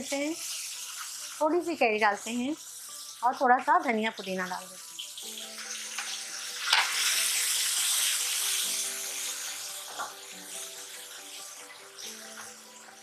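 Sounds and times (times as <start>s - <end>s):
background music: 0.0s - 13.0s
vegetables sizzling in hot oil: 0.0s - 13.0s.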